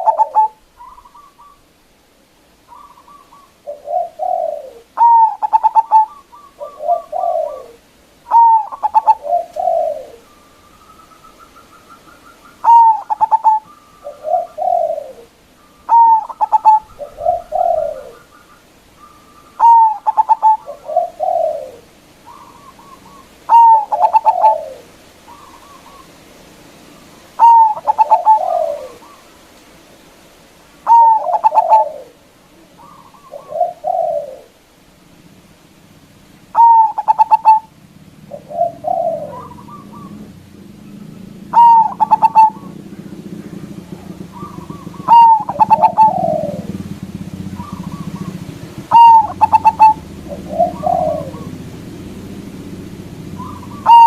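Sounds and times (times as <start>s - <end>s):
dove cooing song: 0.0s - 1.8s, 2.6s - 26.4s, 27.0s - 29.5s, 30.8s - 35.2s, 36.5s - 54.0s.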